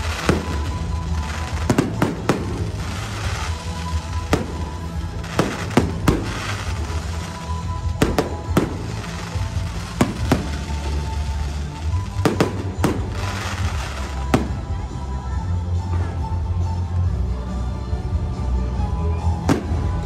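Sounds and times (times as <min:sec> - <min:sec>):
loud show music with bass: 0:00.0 - 0:20.0.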